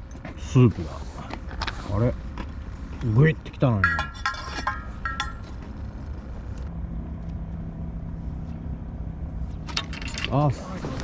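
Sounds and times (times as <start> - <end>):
engine hum: 0.0 - 11.0
low steady rumble: 0.0 - 11.0.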